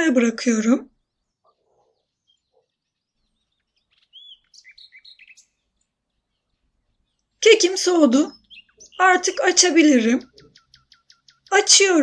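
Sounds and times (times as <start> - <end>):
faint bird twittering: 0.9 - 11.8.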